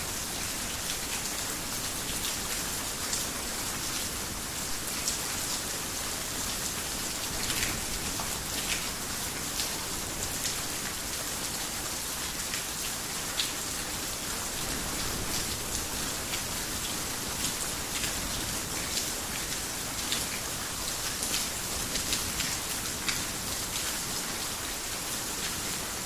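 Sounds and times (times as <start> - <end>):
heavy rain on a roof: 0.0 - 26.0.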